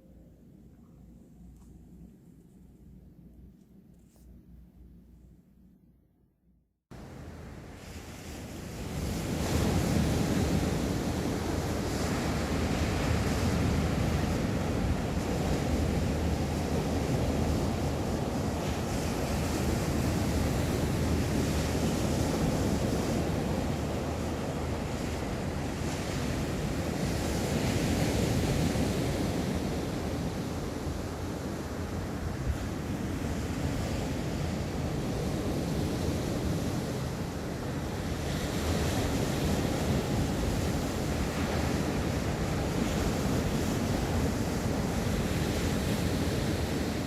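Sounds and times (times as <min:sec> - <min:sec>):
wind buffeting microphone: 0:07.0 - 0:47.0
sea waves washing onto beach: 0:07.6 - 0:47.0.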